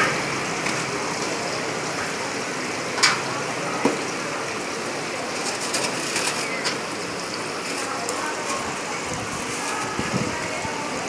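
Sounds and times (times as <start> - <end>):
oil sizzling in a deep fryer: 0.0 - 11.0.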